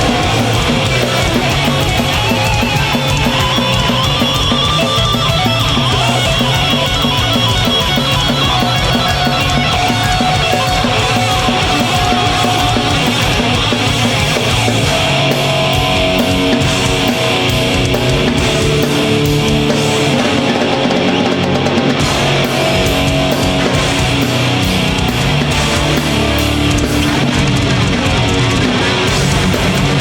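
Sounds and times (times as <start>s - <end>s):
bass guitar: 0.0s - 30.0s
distorted electric guitars: 0.0s - 30.0s
drum hits: 0.0s - 30.0s.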